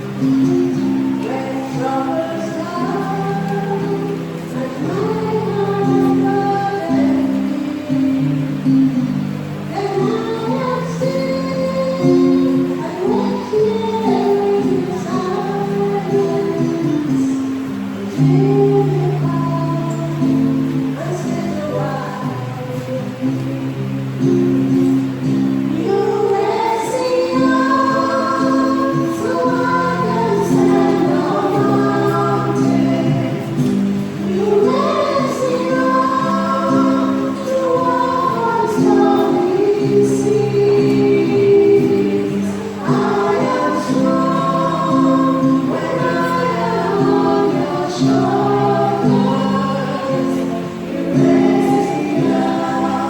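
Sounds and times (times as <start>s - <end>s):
church choir singing: 0.0s - 53.0s.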